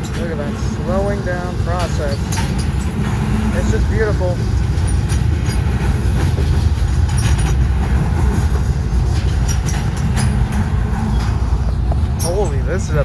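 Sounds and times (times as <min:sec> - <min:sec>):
freight train rumbling past: 0:00.0 - 0:13.0
train wheels clicking: 0:00.0 - 0:13.0.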